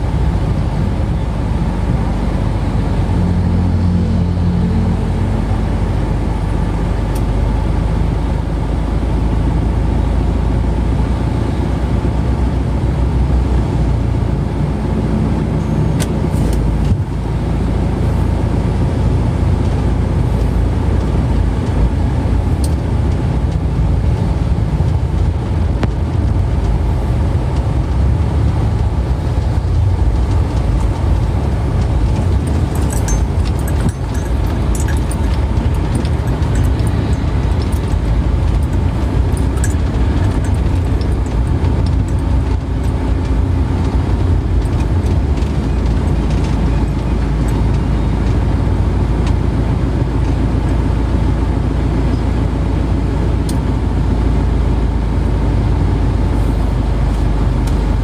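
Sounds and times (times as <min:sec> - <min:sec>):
road vehicle rumble: 0:00.0 - 0:58.0.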